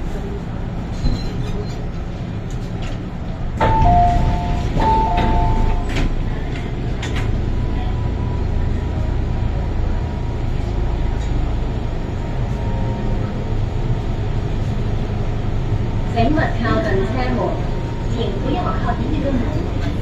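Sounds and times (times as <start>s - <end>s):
metro train wheels rumbling: 0.0s - 20.0s.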